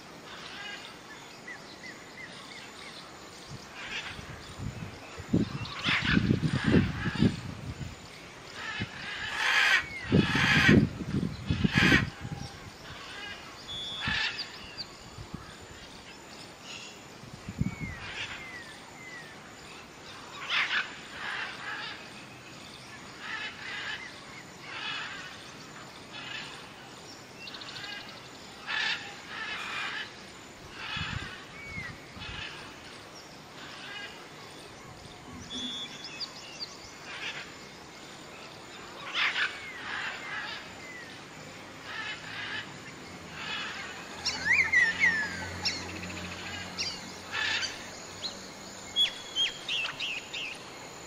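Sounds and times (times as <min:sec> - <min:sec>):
birds calling: 0:00.2 - 0:51.0.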